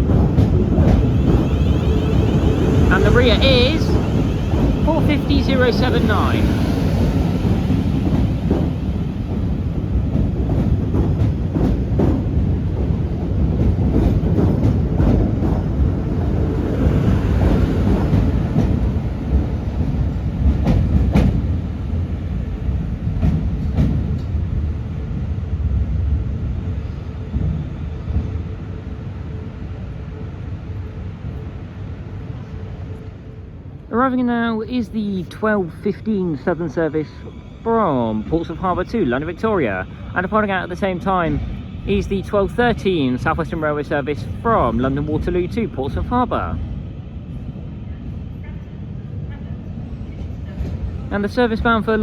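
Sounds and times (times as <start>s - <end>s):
train rumbling on track: 0.0s - 52.0s.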